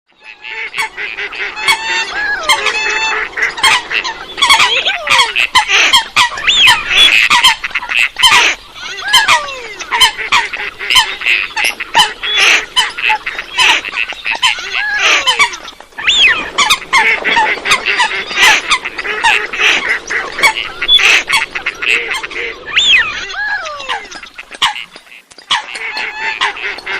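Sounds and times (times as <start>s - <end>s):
flock of coots calling: 0.1s - 26.9s.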